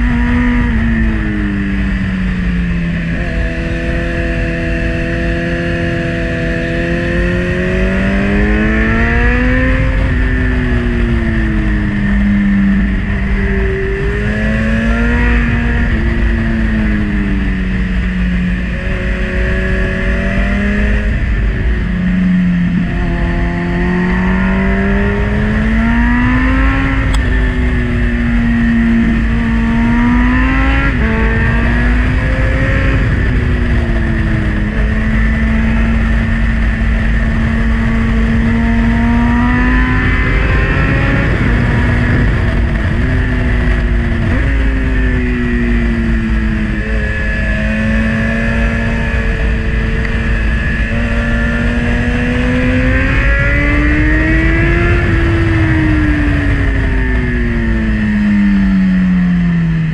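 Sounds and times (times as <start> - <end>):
motorcycle engine revving: 0.0 - 59.9
wind rush on camera: 0.0 - 59.9.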